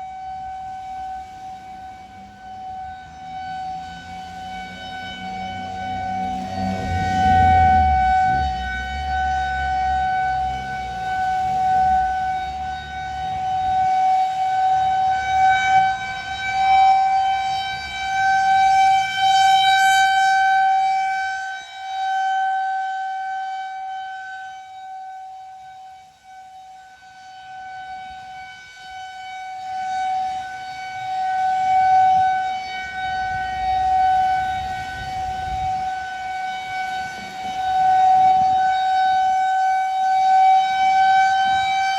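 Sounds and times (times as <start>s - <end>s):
rotating warning siren: 0.0s - 41.9s.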